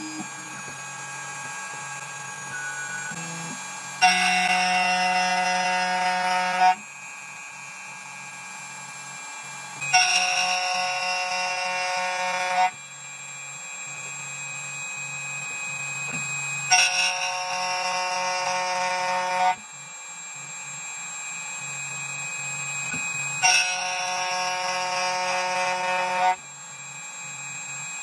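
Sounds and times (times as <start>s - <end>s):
cutter whining on metal: 0.0s - 28.0s
key cutting machine spindle hum: 0.0s - 28.0s.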